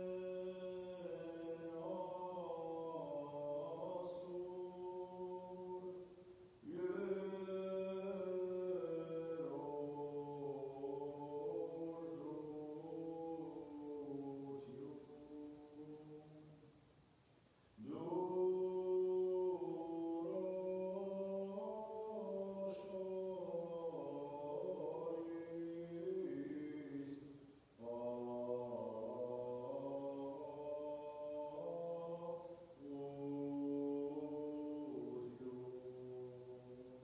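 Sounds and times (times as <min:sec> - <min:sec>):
liturgical chant singing: 0:00.0 - 0:16.8, 0:17.7 - 0:37.0.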